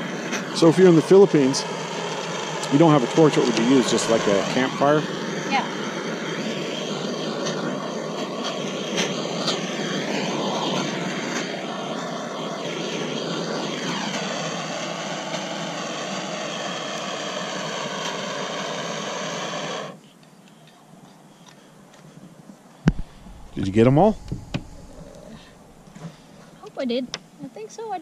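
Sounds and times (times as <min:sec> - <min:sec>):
gas torch hissing: 0:00.0 - 0:20.0, 0:22.8 - 0:26.6.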